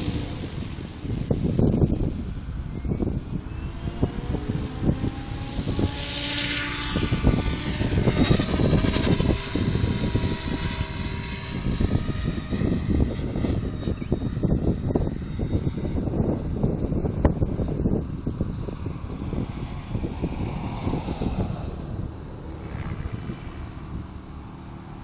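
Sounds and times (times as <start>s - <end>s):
model helicopter rotor whine: 0.0s - 25.0s
wind buffeting microphone: 0.0s - 25.0s.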